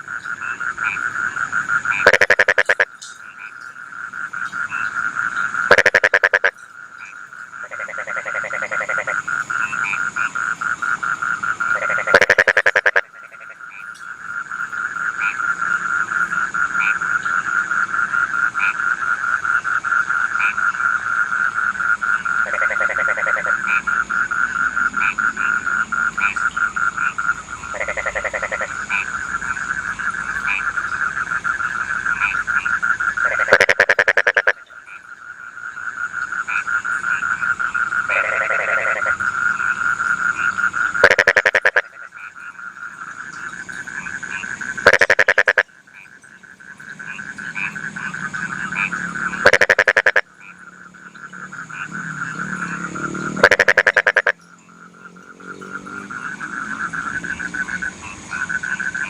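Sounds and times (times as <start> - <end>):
frog chorus trilling: 0.0 - 59.0
loud nearby frog call: 0.0 - 59.0.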